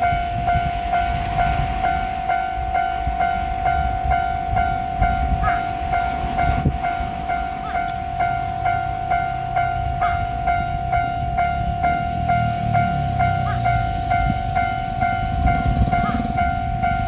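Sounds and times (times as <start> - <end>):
level-crossing bell ringing: 0.0 - 17.0.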